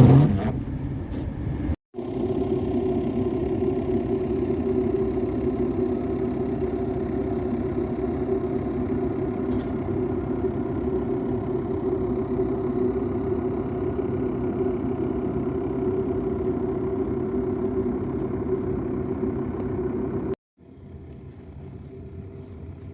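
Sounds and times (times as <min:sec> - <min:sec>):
car engine running: 0:00.0 - 0:22.9.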